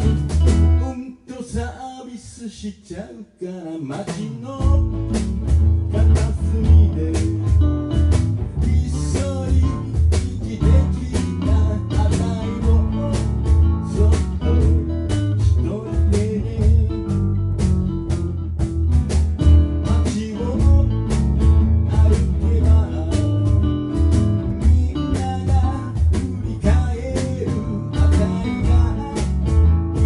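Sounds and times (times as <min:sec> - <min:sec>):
acoustic guitars playing blues: 0:00.0 - 0:01.1, 0:04.1 - 0:30.0.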